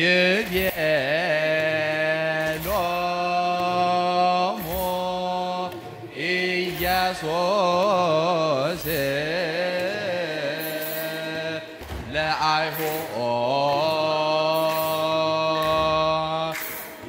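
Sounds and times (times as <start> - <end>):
choir chanting in unison: 0.0 - 16.7.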